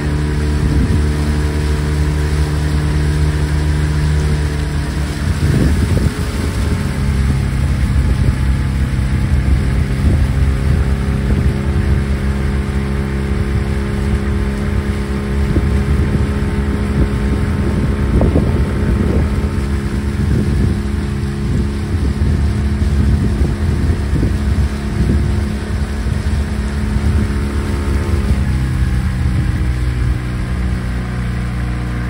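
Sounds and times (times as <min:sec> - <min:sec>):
boat outboard motor running: 0:00.0 - 0:32.0
wind buffeting microphone: 0:00.0 - 0:32.0.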